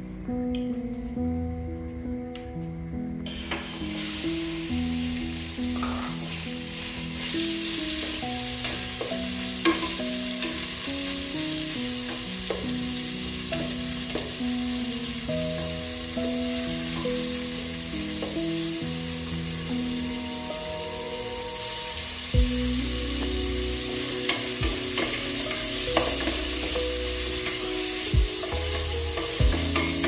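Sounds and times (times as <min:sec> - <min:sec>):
background music: 0:00.0 - 0:30.0
meat sizzling in oil: 0:03.3 - 0:30.0.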